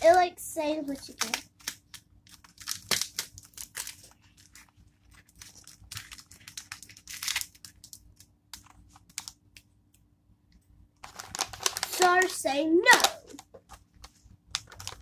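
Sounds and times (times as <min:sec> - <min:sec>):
sticker sheet crackling: 0:00.0 - 0:09.6, 0:11.0 - 0:15.0
paper rustle: 0:00.9 - 0:09.3, 0:11.0 - 0:15.0.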